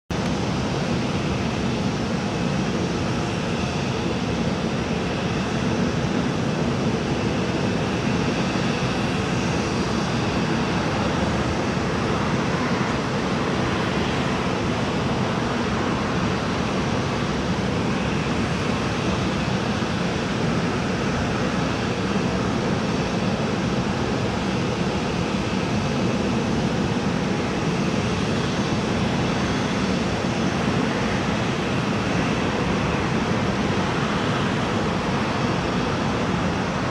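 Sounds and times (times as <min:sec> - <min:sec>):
jet engines running at low power: 0:00.1 - 0:36.9.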